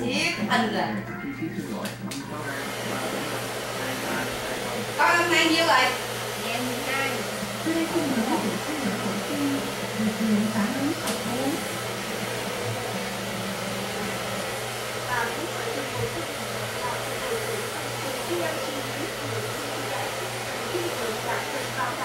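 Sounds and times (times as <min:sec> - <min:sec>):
hair dryer blowing: 0:02.3 - 0:22.0.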